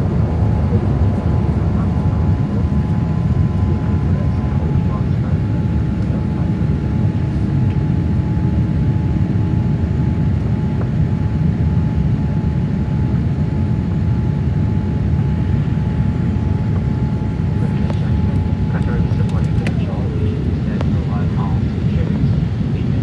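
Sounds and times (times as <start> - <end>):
airliner cabin rumble: 0.0 - 23.0
faint steady whine: 0.0 - 23.0.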